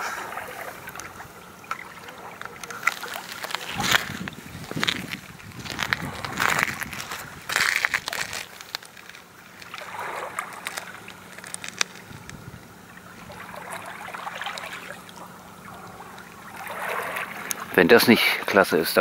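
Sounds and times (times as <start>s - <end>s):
small water splashes and drips: 0.0s - 4.9s, 5.7s - 12.1s, 12.8s - 17.8s
water lapping on rocks: 0.0s - 18.6s.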